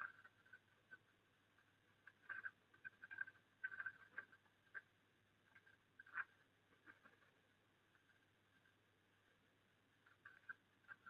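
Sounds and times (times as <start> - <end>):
faint bird chirps: 0.0 - 8.9, 9.9 - 11.0.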